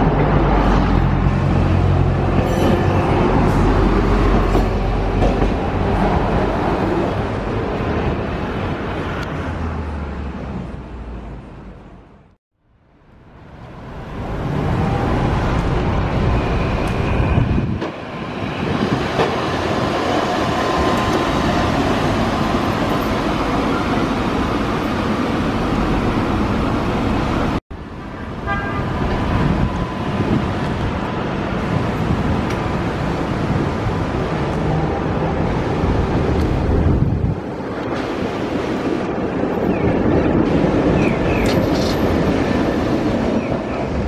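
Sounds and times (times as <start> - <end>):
trams running on tracks: 0.0 - 12.3, 13.0 - 44.0
street traffic: 0.0 - 44.0.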